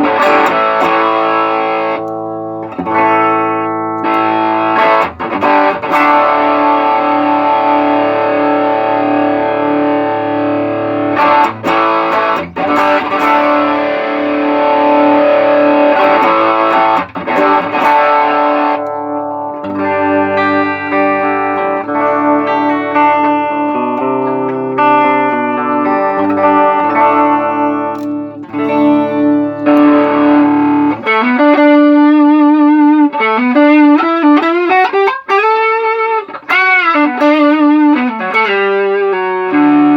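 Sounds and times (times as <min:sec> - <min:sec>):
overdriven electric guitar: 0:00.0 - 0:39.9.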